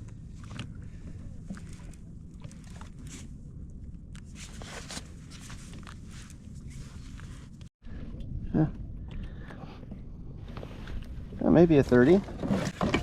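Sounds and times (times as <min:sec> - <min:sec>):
steady low rumble: 0:00.0 - 0:12.2.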